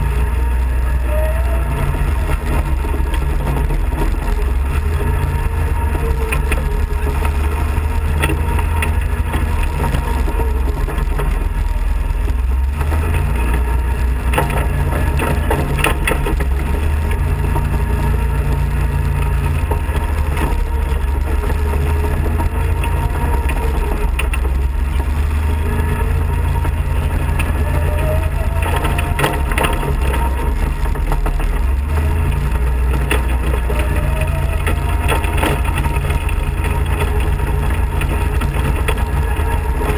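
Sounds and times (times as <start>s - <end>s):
gravel crunching under tyres: 0.0s - 39.9s
kart engine running: 0.0s - 39.9s.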